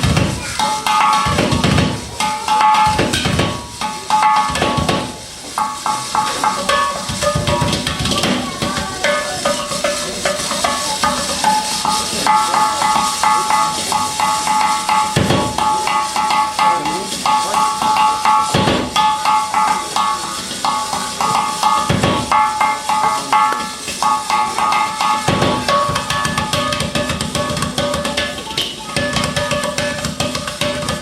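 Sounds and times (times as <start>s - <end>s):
heavy ringing drum hit: 0.0s - 31.0s
percussion music: 0.0s - 31.0s.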